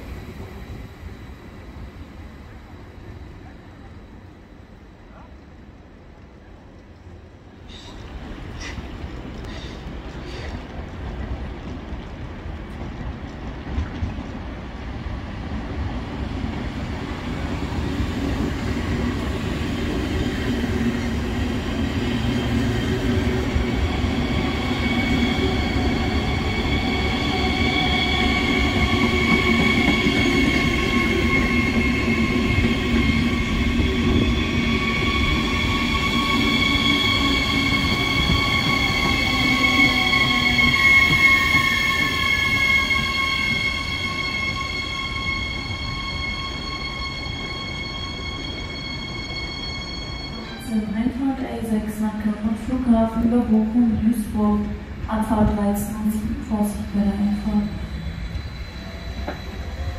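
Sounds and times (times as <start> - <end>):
electric train rumble and whine: 0.0 - 59.9.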